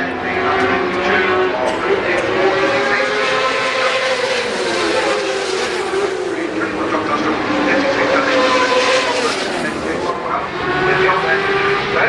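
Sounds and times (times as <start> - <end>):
race motorcycle engines at high revs: 0.0 - 12.0.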